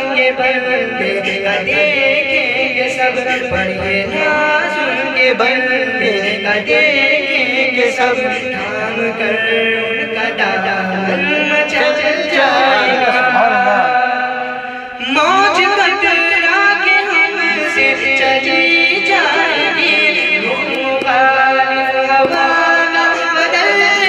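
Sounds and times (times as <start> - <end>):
man singing into microphone: 0.0 - 24.0.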